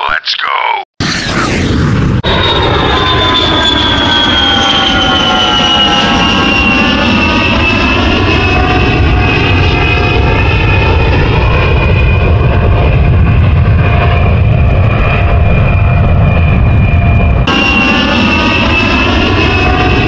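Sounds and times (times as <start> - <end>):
engine rumbling with high whine: 1.0 - 20.0.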